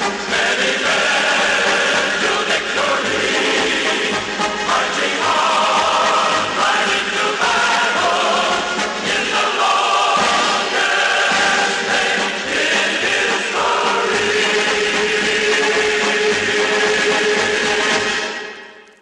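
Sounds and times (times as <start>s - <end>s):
choir singing a march: 0.0s - 18.8s
instrumental accompaniment: 0.0s - 19.0s.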